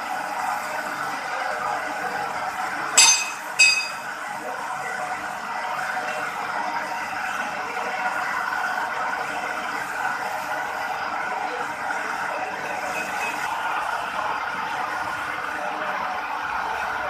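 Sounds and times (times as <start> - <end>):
workshop machinery running: 0.0 - 17.0.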